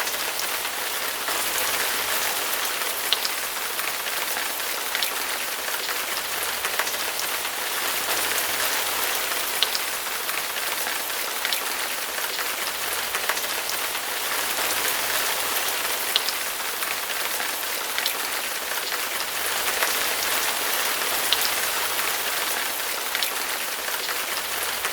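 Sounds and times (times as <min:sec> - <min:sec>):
rain hissing on hard surfaces: 0:00.0 - 0:24.9.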